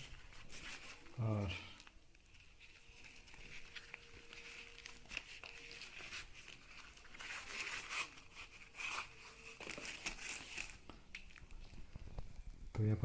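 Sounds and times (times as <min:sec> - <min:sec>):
packaging rustling and crinkling: 0:00.0 - 0:12.5.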